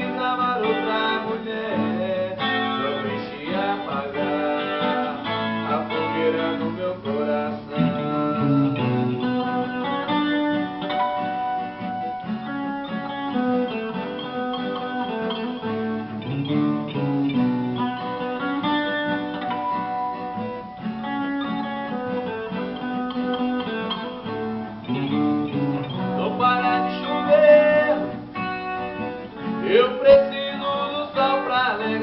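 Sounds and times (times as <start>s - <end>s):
guitar playing a melody: 0.0s - 32.0s.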